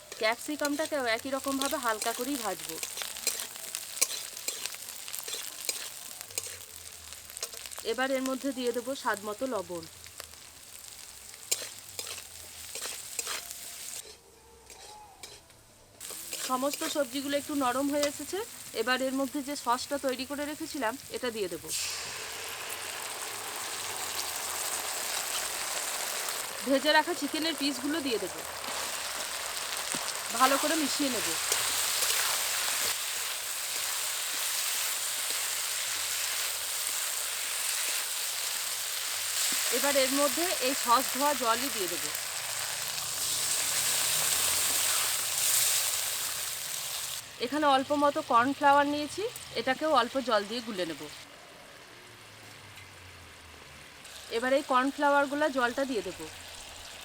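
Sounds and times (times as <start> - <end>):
vegetables sizzling in hot oil: 0.0 - 15.4, 16.0 - 52.4, 53.3 - 57.0.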